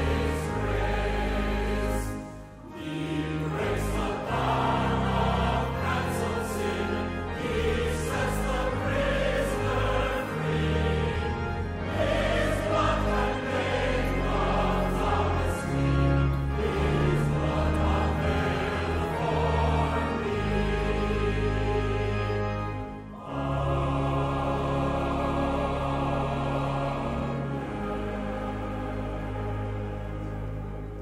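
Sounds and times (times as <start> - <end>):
church choir singing: 0.0 - 31.0
instrumental accompaniment: 0.0 - 31.0.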